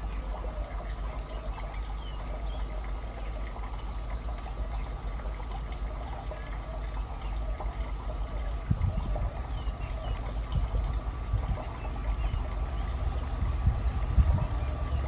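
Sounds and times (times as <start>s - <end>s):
faint steady hums: 0.0s - 15.0s.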